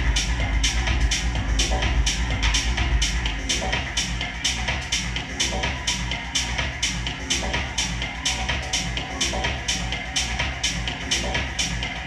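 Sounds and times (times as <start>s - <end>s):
techno music: 0.0s - 12.0s.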